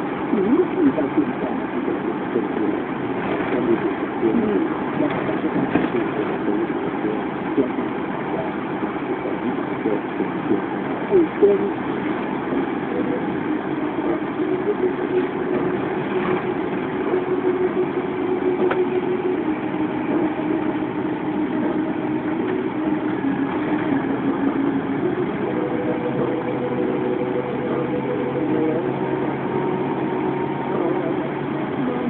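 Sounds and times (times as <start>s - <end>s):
car engine running: 0.0s - 32.0s
road noise: 0.0s - 32.0s.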